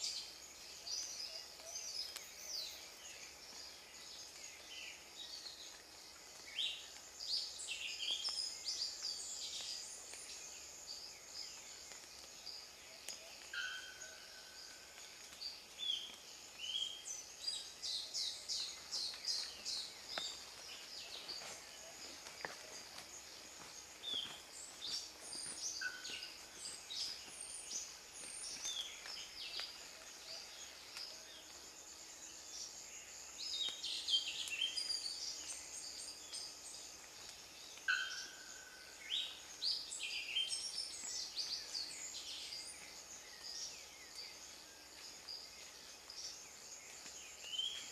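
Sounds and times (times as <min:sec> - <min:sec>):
steady high insect buzz: 0:00.0 - 0:47.9.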